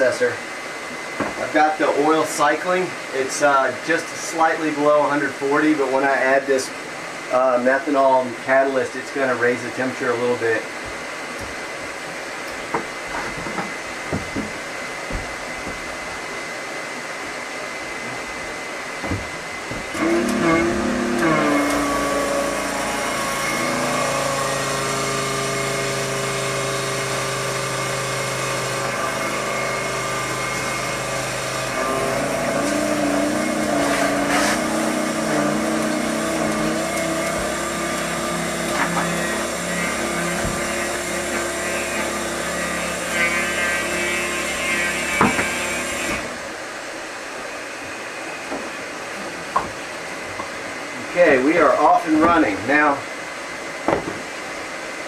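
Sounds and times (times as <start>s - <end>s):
pump humming: 6.3s - 55.0s
small pump motor whine: 9.4s - 55.0s.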